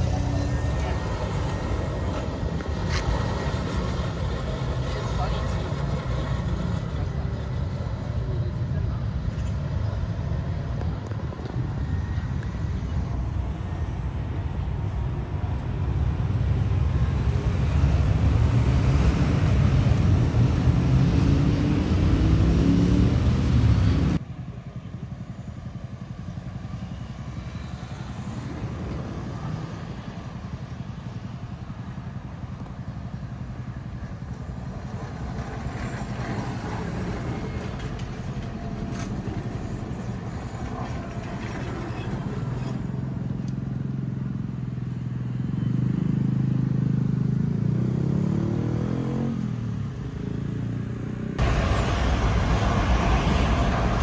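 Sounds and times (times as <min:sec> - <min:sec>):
tram moving past: 0:00.0 - 0:22.2, 0:23.1 - 0:44.0, 0:51.4 - 0:54.0
bus engine passing: 0:00.0 - 0:54.0
loud vehicle tone: 0:00.0 - 0:54.0
street traffic noise: 0:00.0 - 0:54.0.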